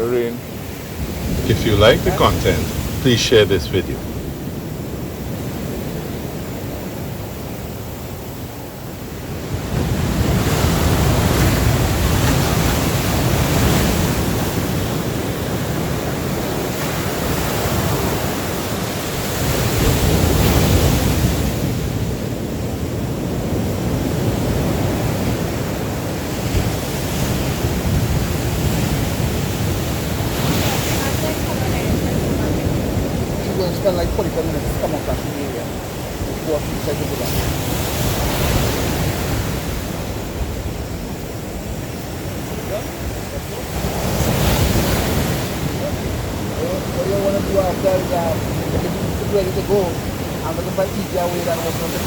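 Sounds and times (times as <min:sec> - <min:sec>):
surf breaking on beach: 0:00.0 - 0:52.0
wind buffeting microphone: 0:00.0 - 0:52.0.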